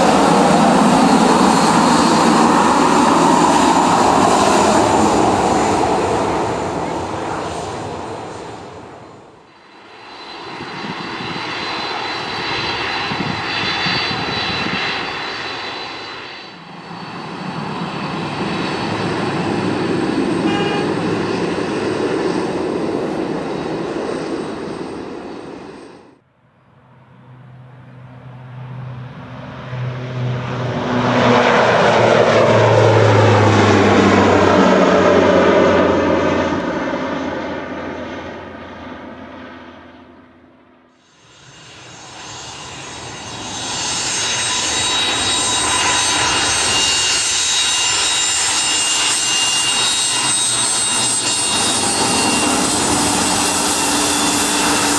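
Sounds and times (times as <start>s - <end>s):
jet engine noise: 0.0s - 54.9s
jet passing close by: 0.0s - 54.9s.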